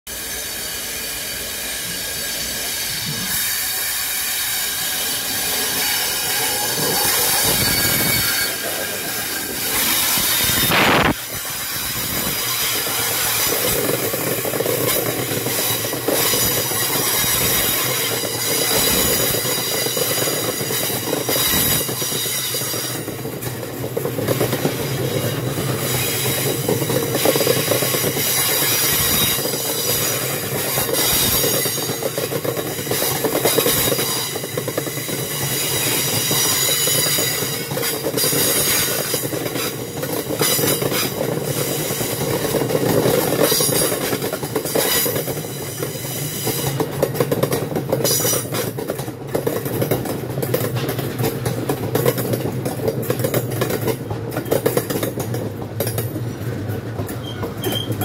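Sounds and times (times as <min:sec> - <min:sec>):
diesel locomotive passing: 0:00.1 - 0:58.0.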